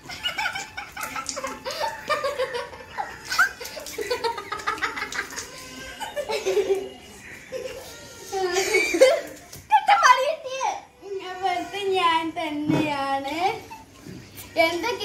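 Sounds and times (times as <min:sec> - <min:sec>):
children laughing: 0:00.0 - 0:10.4, 0:13.3 - 0:15.0.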